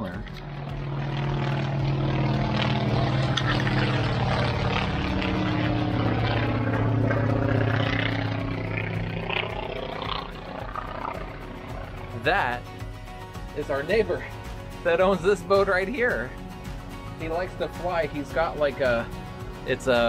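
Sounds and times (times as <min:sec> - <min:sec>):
propeller plane passing overhead: 0:00.0 - 0:20.0.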